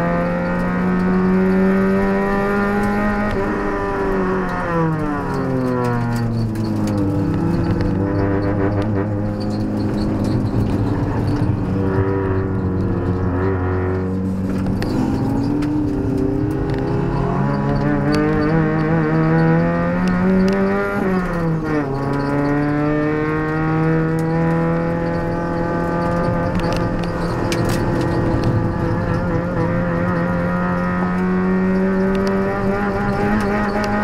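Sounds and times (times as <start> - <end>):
car engine revving from inside: 0.0 - 34.0.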